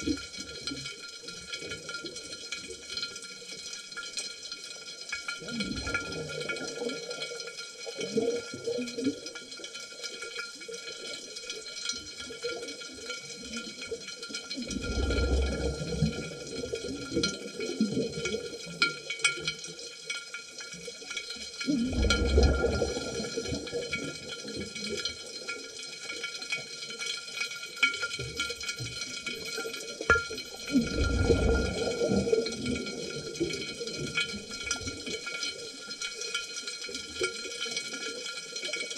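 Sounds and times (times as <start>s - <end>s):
underwater bubbles gurgling: 0.0s - 38.9s.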